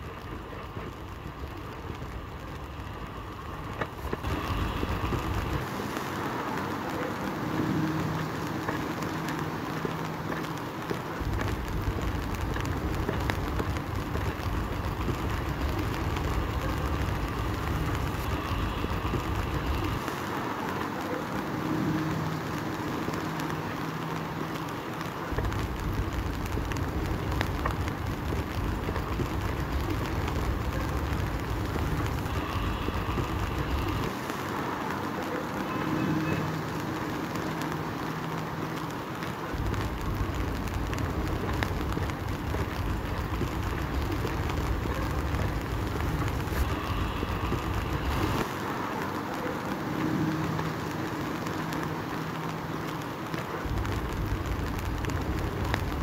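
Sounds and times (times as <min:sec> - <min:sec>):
rain: 0:00.0 - 0:56.0
street traffic: 0:00.0 - 0:56.0.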